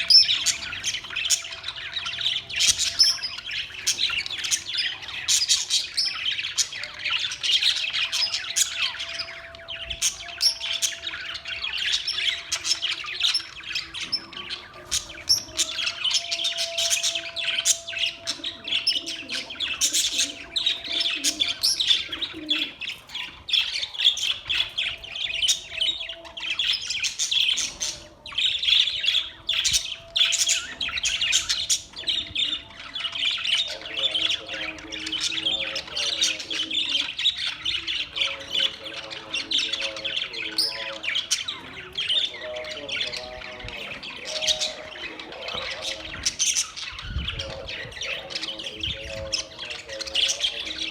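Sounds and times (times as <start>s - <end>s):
budgerigars chattering: 0.0s - 50.9s.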